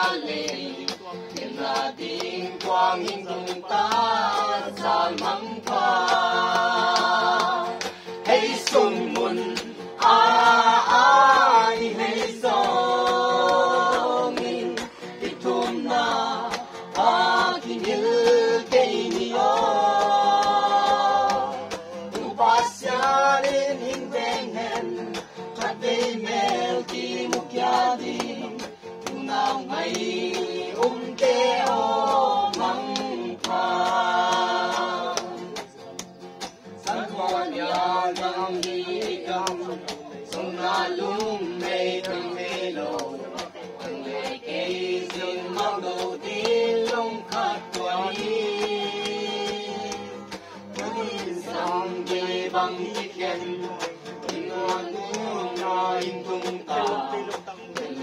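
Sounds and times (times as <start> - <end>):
men and women singing in chorus: 0.0 - 35.8, 36.6 - 58.0.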